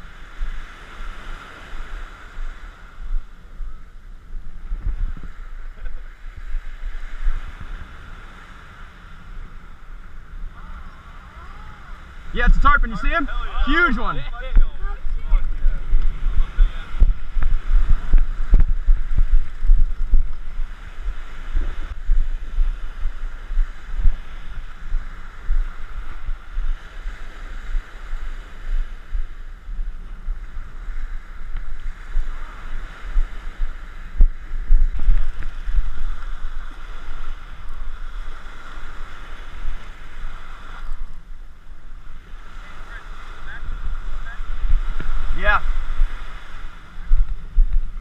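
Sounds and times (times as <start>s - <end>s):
small surf breaking on beach: 0.0s - 48.0s
wind buffeting microphone: 0.0s - 48.0s.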